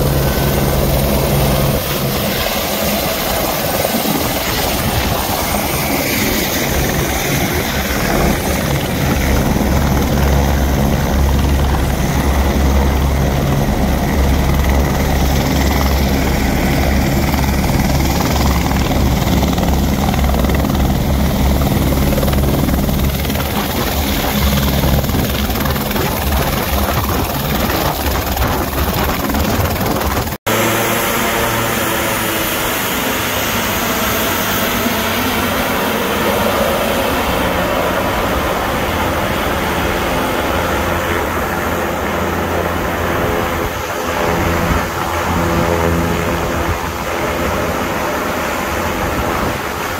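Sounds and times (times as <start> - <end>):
helicopter hovering: 0.0 - 49.9
propeller airplane engines humming: 0.0 - 49.9.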